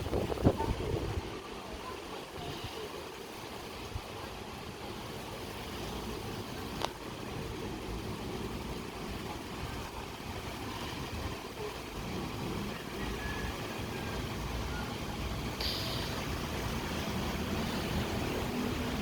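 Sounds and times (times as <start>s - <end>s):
distant traffic rumble: 0.0s - 19.0s
light rain hiss: 0.0s - 19.0s.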